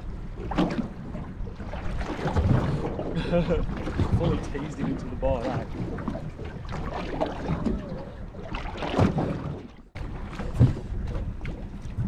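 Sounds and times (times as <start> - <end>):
water slapping against boat hull: 0.0 - 12.0
wind buffeting microphone: 0.0 - 12.0.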